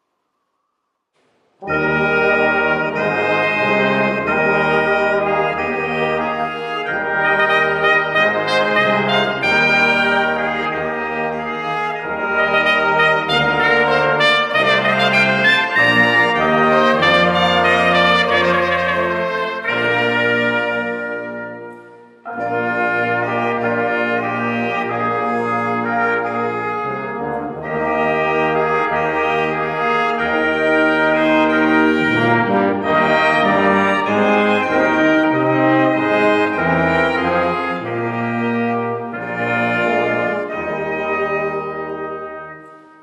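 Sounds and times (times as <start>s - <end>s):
brass ensemble playing chords: 1.6s - 43.0s.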